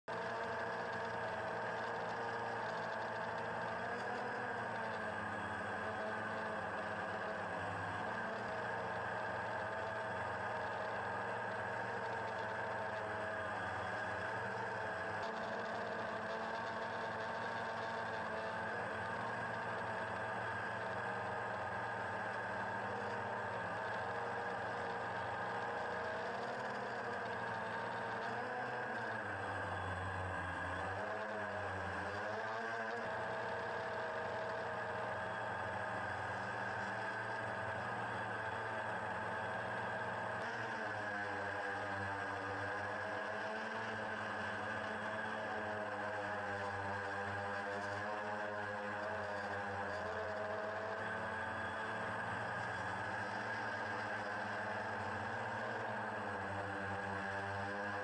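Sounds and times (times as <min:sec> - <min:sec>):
drone propellers buzzing: 0:00.1 - 0:58.0.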